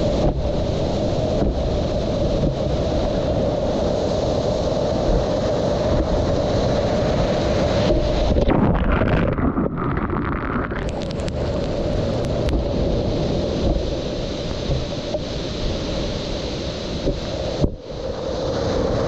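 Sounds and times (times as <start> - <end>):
ocean surf rushing: 0.0 - 19.0
water washing over microphone: 0.0 - 19.0
wind buffeting microphone: 0.0 - 19.0.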